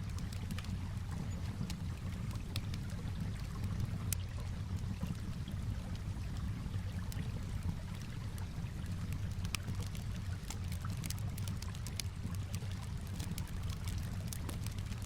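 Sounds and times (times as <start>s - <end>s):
campfire crackling and popping: 0.0s - 15.0s
flowing water: 0.0s - 15.0s.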